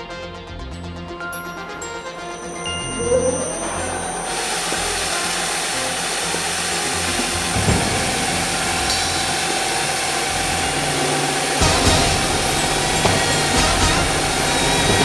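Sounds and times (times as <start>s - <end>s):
pipe drilling machine whining: 2.4s - 15.0s.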